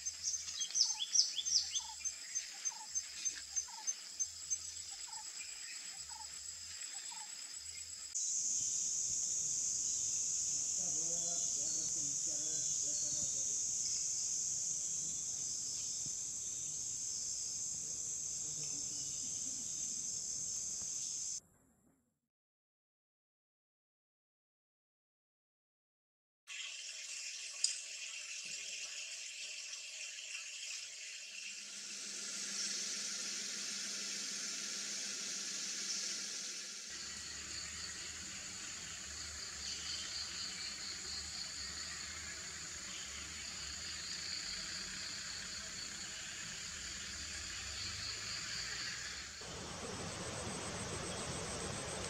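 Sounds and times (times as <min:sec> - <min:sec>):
high-pitched hiss: 0:00.0 - 0:21.4, 0:27.5 - 0:52.0.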